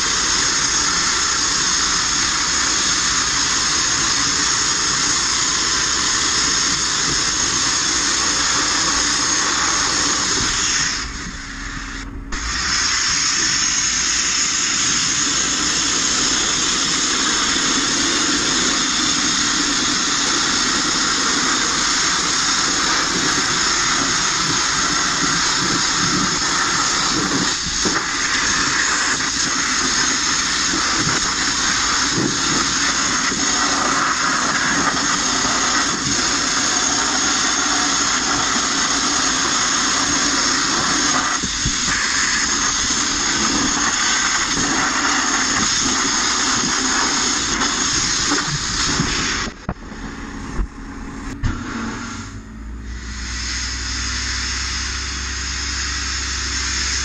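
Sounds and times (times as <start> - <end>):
blast nozzle hissing: 0.0 - 57.0.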